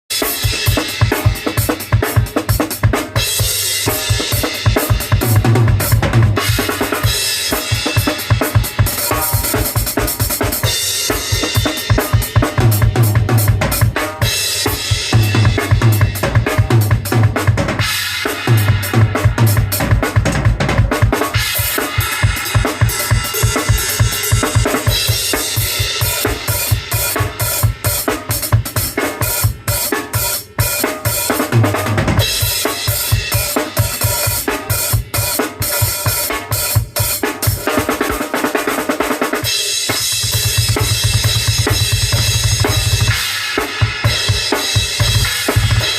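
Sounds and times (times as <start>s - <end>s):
drum kit groove: 0.0s - 45.9s.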